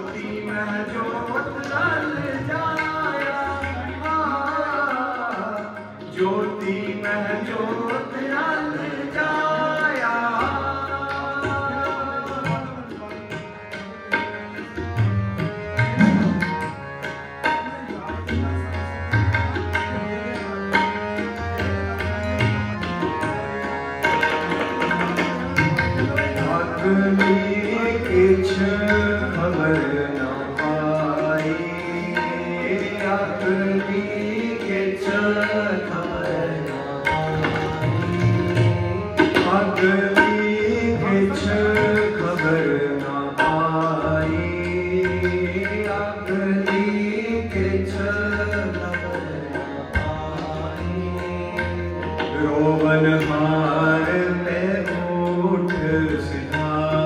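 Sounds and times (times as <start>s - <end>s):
tabla playing: 0.0s - 57.0s.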